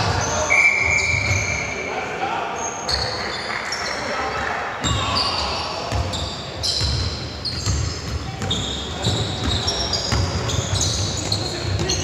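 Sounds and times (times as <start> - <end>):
sneakers squeaking on floor: 0.0 - 1.8, 2.6 - 12.0.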